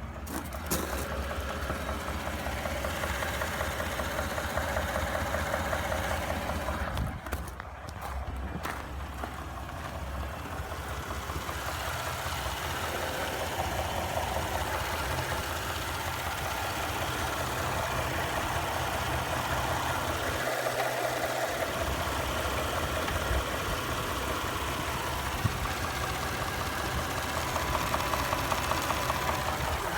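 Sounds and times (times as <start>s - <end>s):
car engine idling: 0.0s - 29.9s
engine knocking: 0.0s - 29.9s.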